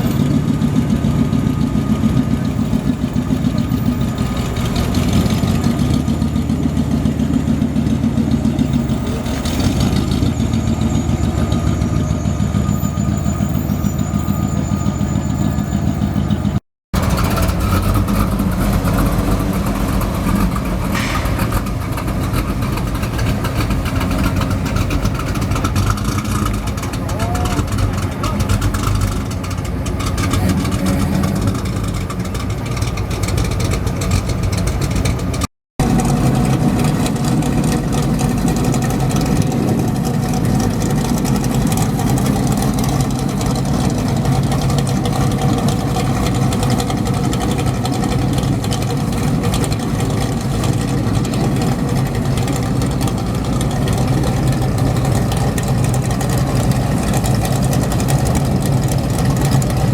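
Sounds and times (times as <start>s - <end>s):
car engines rumbling: 0.0s - 59.9s.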